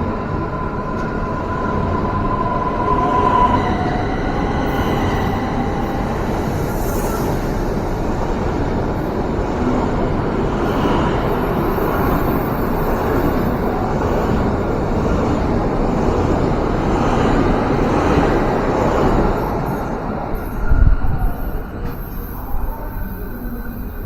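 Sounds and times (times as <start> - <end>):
train rumbling past: 0.0 - 24.0.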